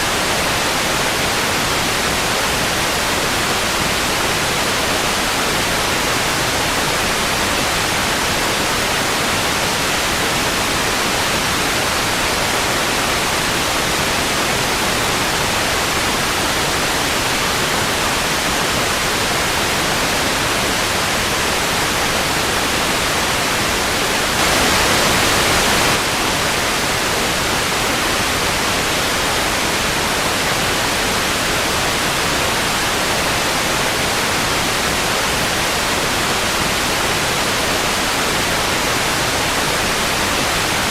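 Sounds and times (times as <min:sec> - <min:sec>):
tv static hiss: 0:00.0 - 0:37.9.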